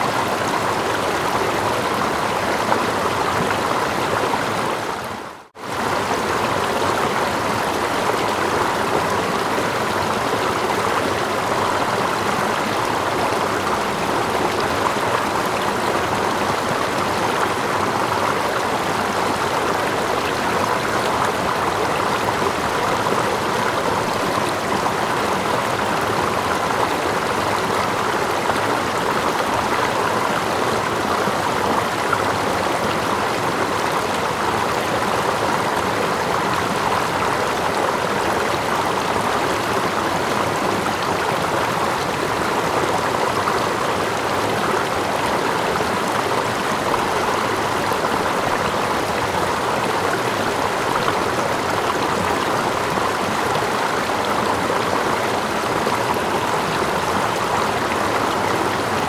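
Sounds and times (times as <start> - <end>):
distant small waterfall: 0.0 - 59.0
stream water rushing: 0.0 - 59.0.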